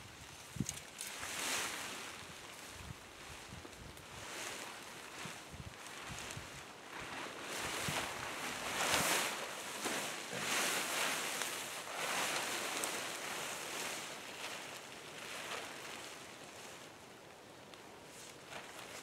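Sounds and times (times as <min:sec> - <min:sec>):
fabric rustling and swishing: 0:00.5 - 0:17.1, 0:18.0 - 0:19.0.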